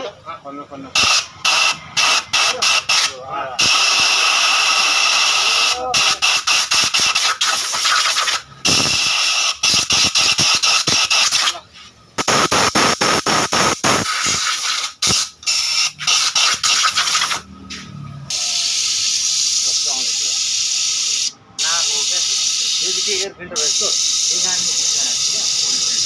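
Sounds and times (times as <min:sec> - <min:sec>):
air blow gun hissing spurts: 0:01.0 - 0:11.6, 0:12.2 - 0:17.4, 0:18.3 - 0:26.0.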